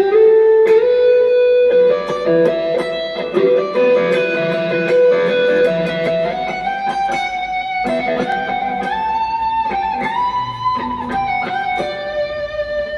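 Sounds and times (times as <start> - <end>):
electric guitar lead melody: 0.0 - 12.9.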